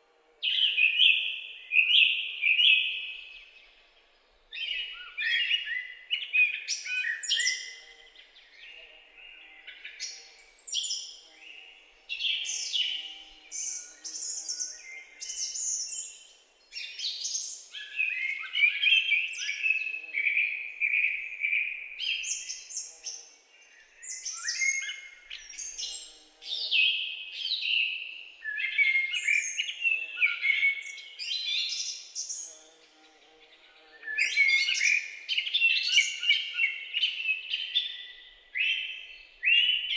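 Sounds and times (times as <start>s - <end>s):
songbirds singing and calling: 0.4s - 39.9s.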